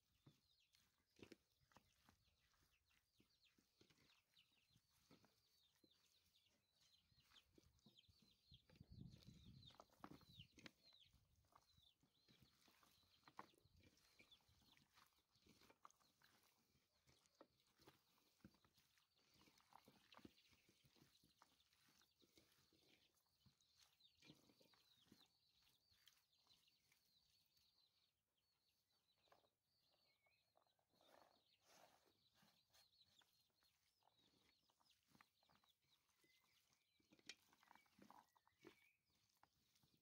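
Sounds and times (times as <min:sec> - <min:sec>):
hands kneading raw chicken: 0:00.0 - 0:40.0.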